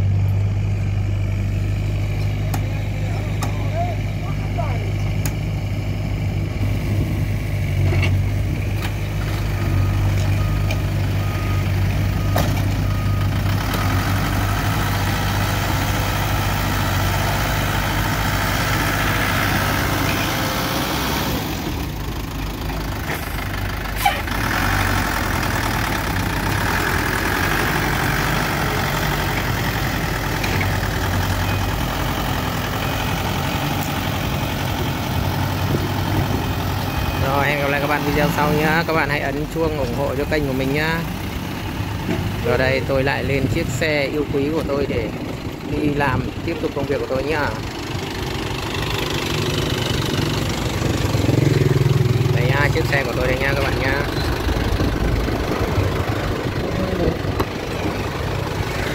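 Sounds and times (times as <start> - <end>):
diesel truck engine running: 0.0 - 58.9.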